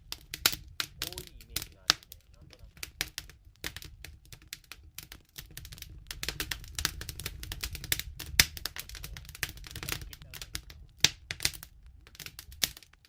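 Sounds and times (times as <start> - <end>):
campfire crackling and popping: 0.0 - 13.0
low steady fire rumble: 0.0 - 13.0.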